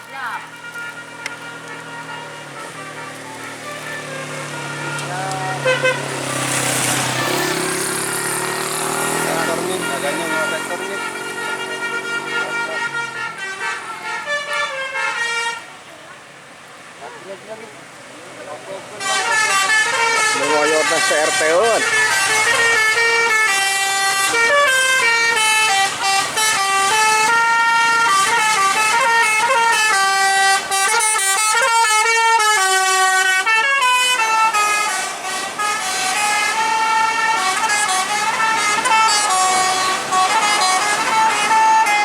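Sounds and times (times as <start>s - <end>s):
musical bus air horn melody: 0.3s - 15.7s, 19.0s - 42.0s.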